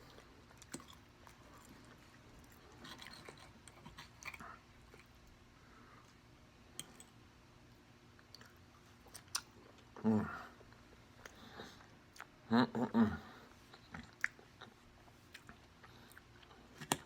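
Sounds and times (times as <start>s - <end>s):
close-up chewing: 0.0s - 7.2s, 8.1s - 12.4s, 13.3s - 17.0s.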